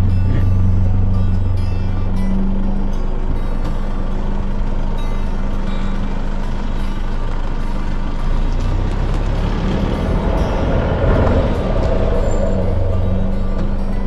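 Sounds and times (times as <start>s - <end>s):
road noise on dirt track: 0.0s - 14.0s
vehicle engine: 0.0s - 14.0s.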